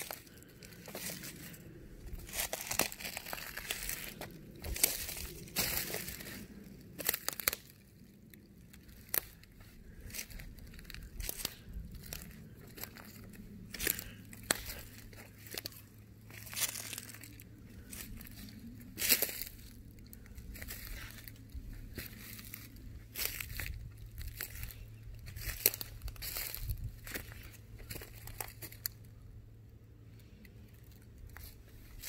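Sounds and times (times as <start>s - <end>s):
twigs cracking: 0.0s - 29.1s
footsteps in dry leaves: 0.0s - 29.6s, 30.6s - 32.0s.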